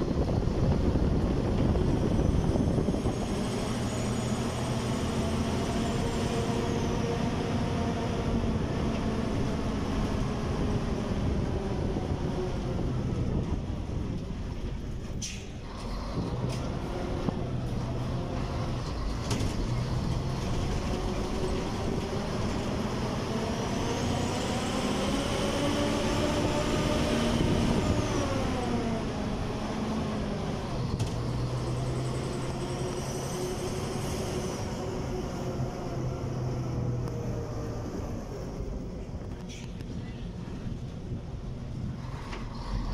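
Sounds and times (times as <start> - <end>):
road noise: 0.0 - 42.9
vehicle engine: 0.0 - 42.9.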